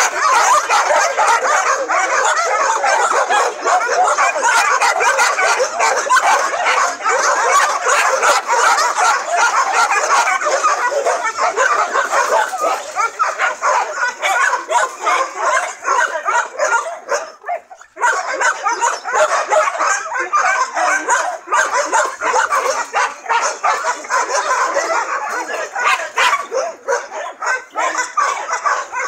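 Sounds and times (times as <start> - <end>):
dogs barking and yipping: 0.0 - 29.0.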